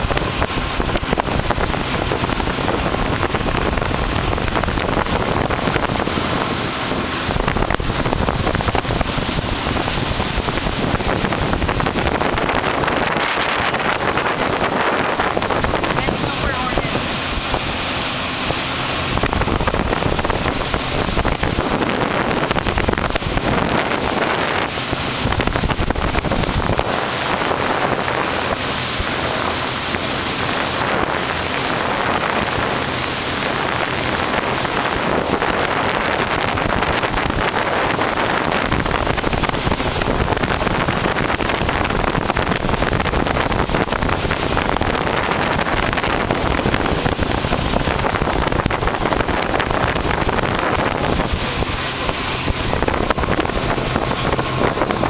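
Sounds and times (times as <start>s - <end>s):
motorboat running: 0.0s - 55.0s
wind buffeting microphone: 0.0s - 55.0s.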